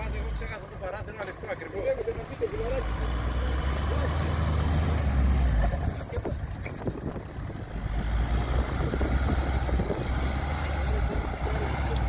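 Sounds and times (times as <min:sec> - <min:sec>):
engine rumbling in sand: 0:00.0 - 0:12.0.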